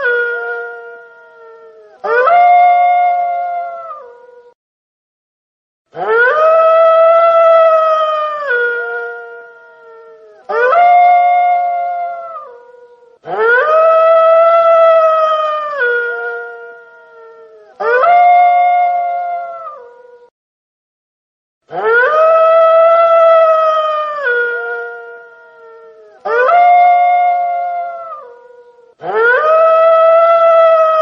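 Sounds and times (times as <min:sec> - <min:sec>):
wolf howling: 0:00.0 - 0:04.6, 0:06.0 - 0:20.3, 0:21.7 - 0:31.0.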